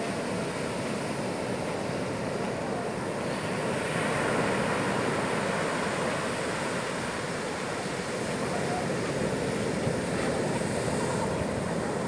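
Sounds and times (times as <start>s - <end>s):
surf breaking on sandy beach: 0.0s - 12.0s.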